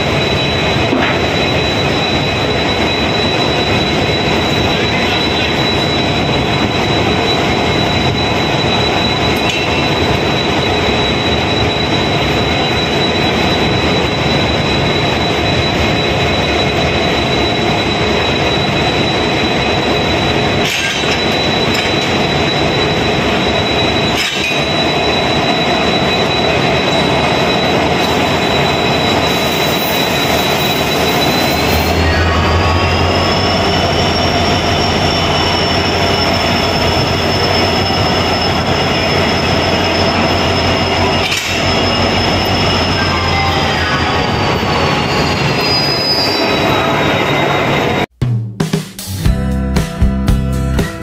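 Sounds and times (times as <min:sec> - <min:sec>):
diesel locomotive engine rumble: 0:00.0 - 0:48.1
high engine whine: 0:00.0 - 0:48.1.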